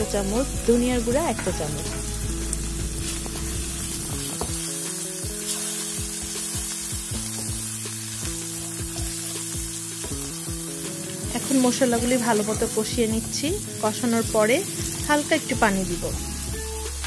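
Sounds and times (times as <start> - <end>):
onions sizzling in hot oil: 0.0 - 17.0
soft background music: 0.0 - 17.0.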